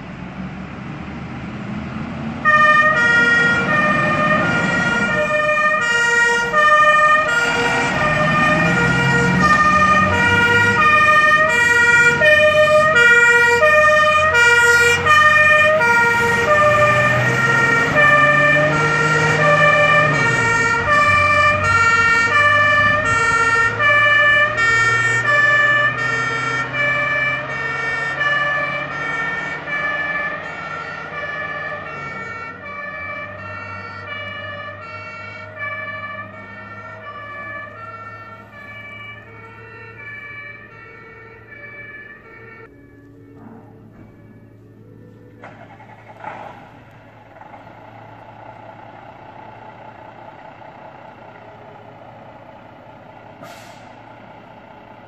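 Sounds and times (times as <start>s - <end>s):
truck engine rumble: 0.0s - 55.0s
two-tone fire engine siren: 1.7s - 55.0s.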